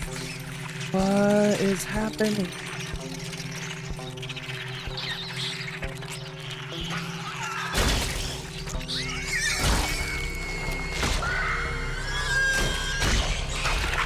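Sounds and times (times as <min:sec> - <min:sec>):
rats squealing: 0:00.0 - 0:14.0
tense film score: 0:00.0 - 0:14.0.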